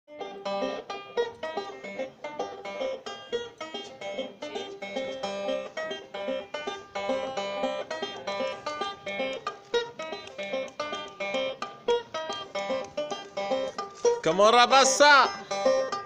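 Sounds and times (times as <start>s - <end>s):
banjo picking: 0.1s - 16.0s.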